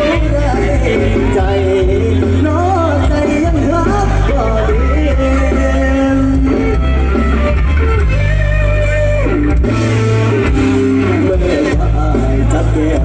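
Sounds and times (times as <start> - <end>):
amplified band instrumental music: 0.0 - 13.0
electric guitar: 0.0 - 13.0
heavy bass: 0.0 - 13.0.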